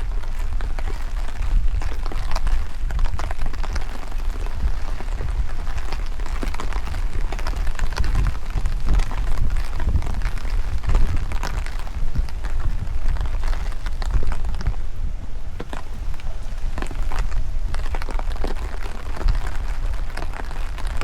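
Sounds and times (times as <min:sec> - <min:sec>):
rain drops falling: 0:00.0 - 0:21.0
wind buffeting microphone: 0:00.0 - 0:21.0.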